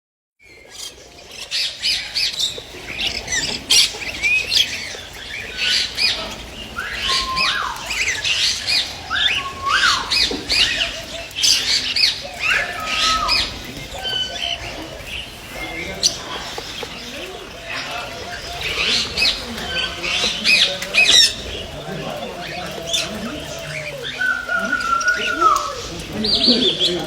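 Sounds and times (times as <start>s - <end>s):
pet birds chirping and squawking: 0.4s - 27.0s.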